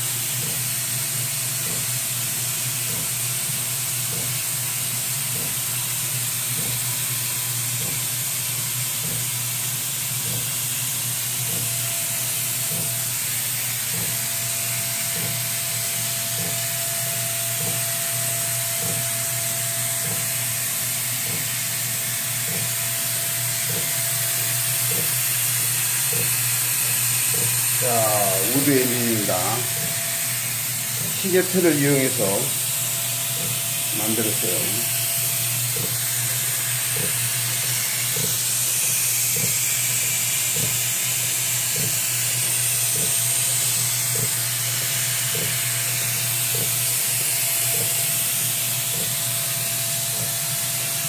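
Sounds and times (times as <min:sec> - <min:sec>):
vacuum hiss and hum: 0:00.0 - 0:51.0.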